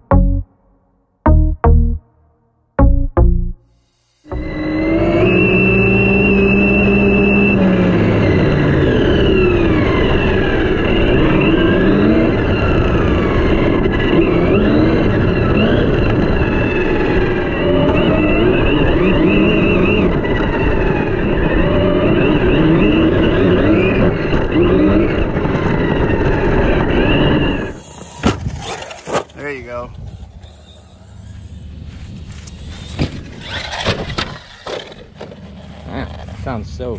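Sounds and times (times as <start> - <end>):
electric motor whining: 4.1 - 36.5
wind and tyres rushing: 4.3 - 36.9.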